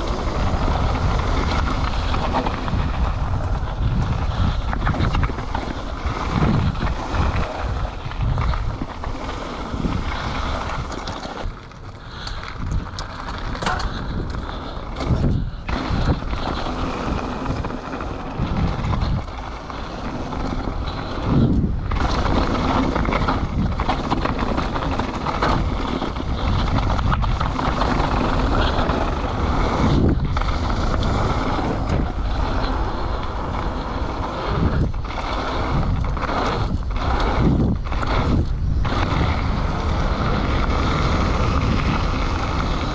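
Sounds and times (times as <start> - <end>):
bike tyres rumbling on dirt: 0.0 - 42.9
wind buffeting microphone: 0.0 - 42.9.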